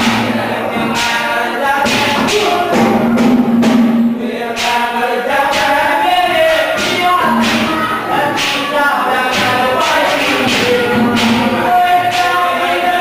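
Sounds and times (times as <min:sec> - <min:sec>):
person singing: 0:00.0 - 0:03.4, 0:04.2 - 0:13.0
drum strokes: 0:00.0 - 0:13.0.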